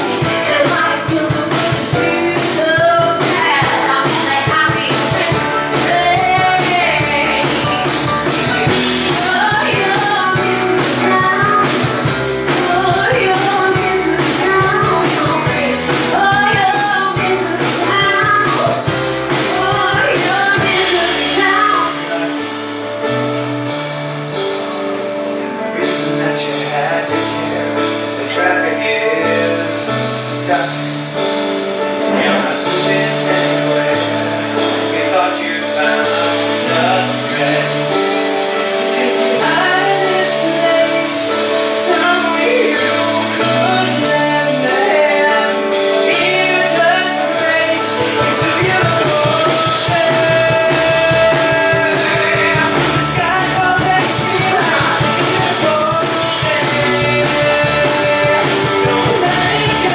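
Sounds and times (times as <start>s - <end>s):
people singing: 0.0s - 22.5s, 25.4s - 30.8s, 31.8s - 59.9s
bass line: 0.0s - 59.9s
live band playing pop-rock: 0.0s - 59.9s.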